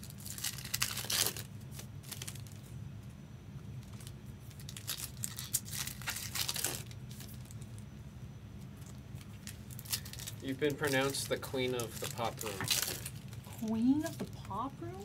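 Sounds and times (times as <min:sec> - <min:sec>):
foil wrappers tearing and crinkling: 0:00.0 - 0:02.7, 0:03.8 - 0:07.8, 0:08.8 - 0:15.0.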